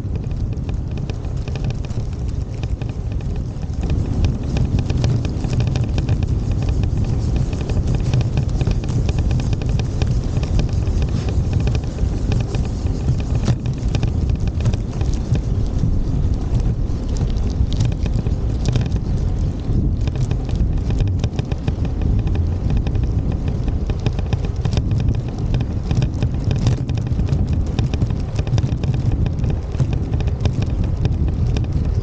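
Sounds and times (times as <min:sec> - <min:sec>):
crackling clicks: 0:00.0 - 0:32.0
wind buffeting microphone: 0:00.0 - 0:32.0.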